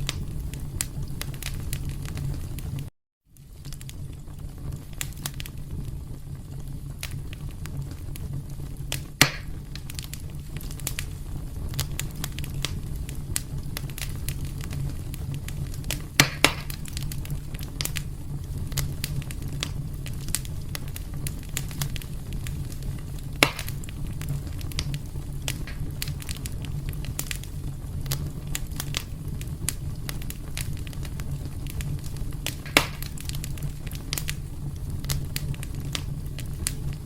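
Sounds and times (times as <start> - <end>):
loud fire pops: 0.0 - 37.0
low rumble of burning: 0.0 - 37.0
small fire snaps: 0.0 - 37.0.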